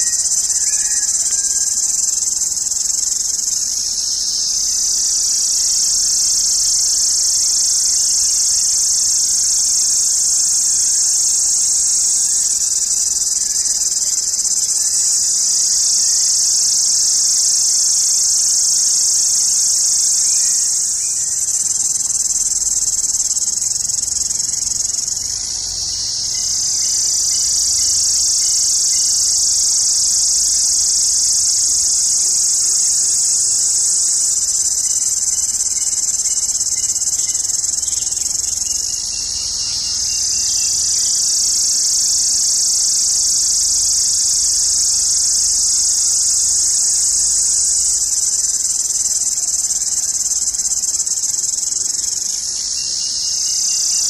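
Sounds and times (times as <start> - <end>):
cicada shrilling: 0.0 - 54.0.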